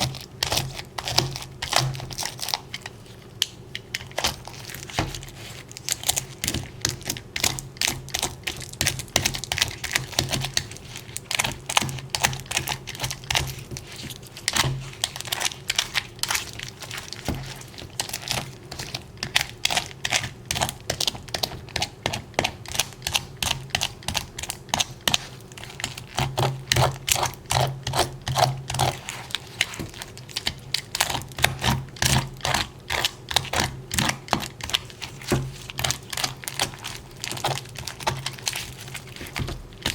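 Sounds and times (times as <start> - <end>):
small clicks and crinkles: 0.0 - 22.2, 23.9 - 39.9.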